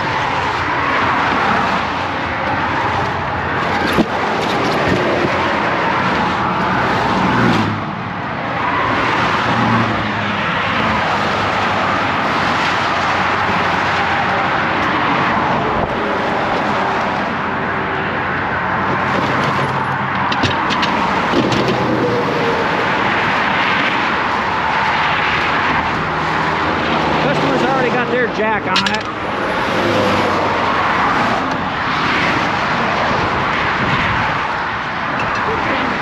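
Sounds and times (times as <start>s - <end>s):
highway traffic rushing past: 0.0s - 36.0s.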